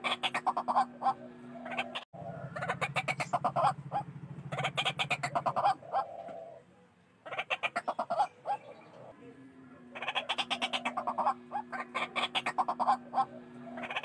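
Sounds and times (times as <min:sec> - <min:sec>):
waterhen calling: 0:00.0 - 0:09.2, 0:09.9 - 0:14.0.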